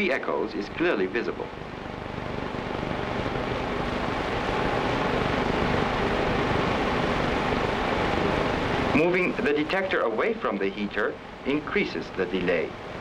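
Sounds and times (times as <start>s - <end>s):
faint low hum: 0.0s - 13.0s
steady rushing drone: 0.7s - 13.0s.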